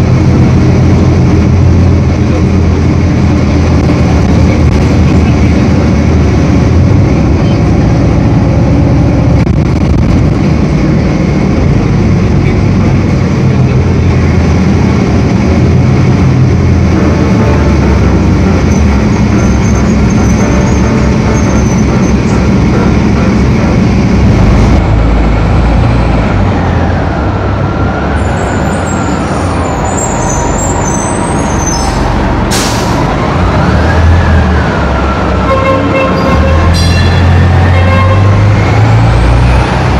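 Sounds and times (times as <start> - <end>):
bus engine drone with whine: 0.0 - 39.9.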